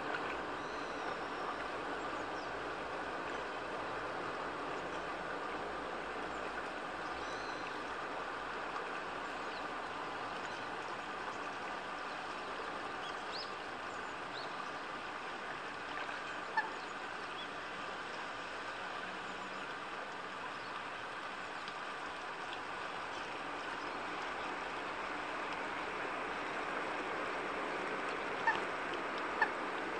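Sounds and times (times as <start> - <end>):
outdoor background rush: 0.0 - 29.9.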